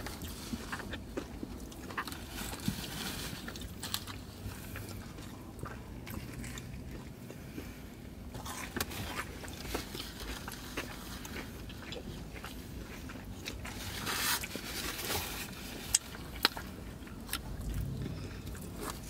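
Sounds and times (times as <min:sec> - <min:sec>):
chewing and wet mouth sounds: 0:00.0 - 0:19.0.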